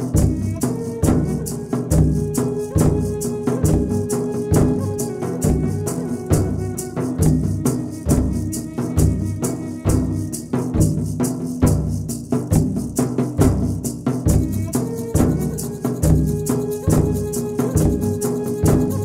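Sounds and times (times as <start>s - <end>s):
low drum beat: 0.0s - 19.0s
rattling shaker: 0.0s - 19.0s.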